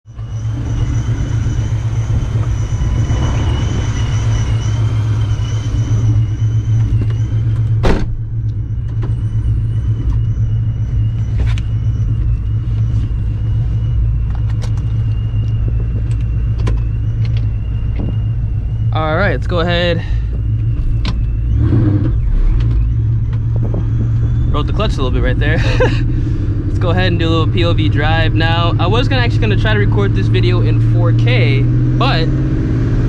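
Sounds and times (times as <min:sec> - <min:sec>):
car engine idling: 0:00.0 - 0:32.3
thin high whine: 0:00.1 - 0:32.2.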